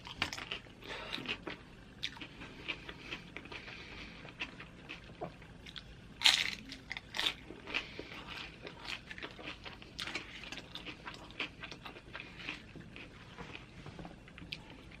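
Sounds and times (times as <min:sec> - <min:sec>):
chewing crunchy chips: 0:00.0 - 0:15.0.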